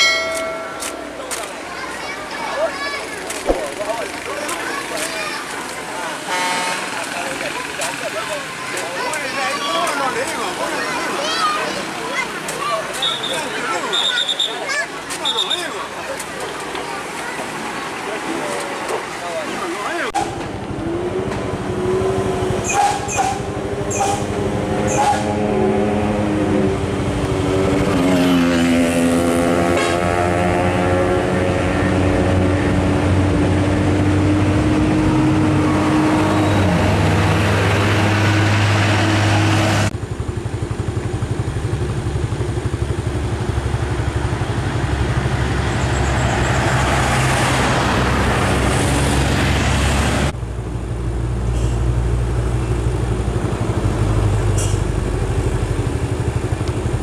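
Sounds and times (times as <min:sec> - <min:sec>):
traffic engines passing: 0:00.0 - 0:57.0.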